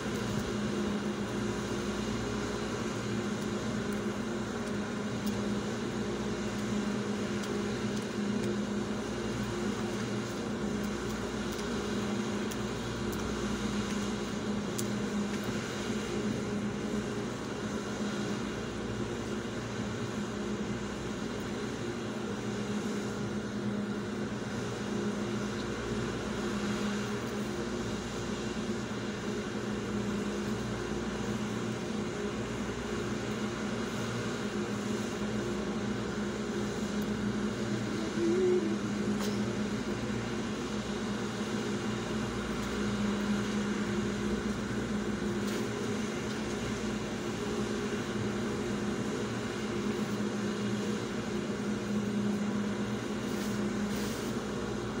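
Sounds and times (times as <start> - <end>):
engine idling hum: 0.0 - 55.0.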